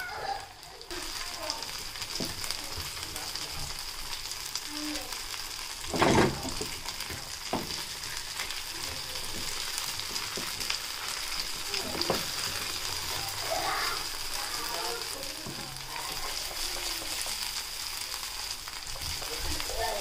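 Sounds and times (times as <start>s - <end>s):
potato cake sizzling in oil: 0.0s - 20.0s.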